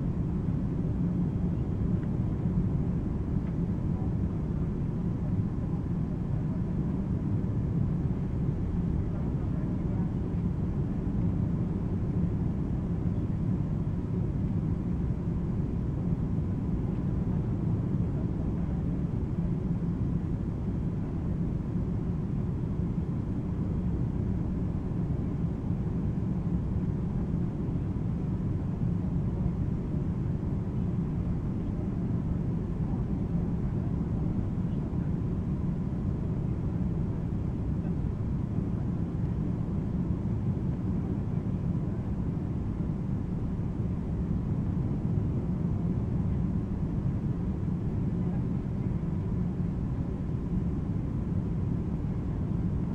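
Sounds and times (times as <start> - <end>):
faint steady whine: 0.0 - 52.9
jet engines and airflow rumble: 0.0 - 52.9.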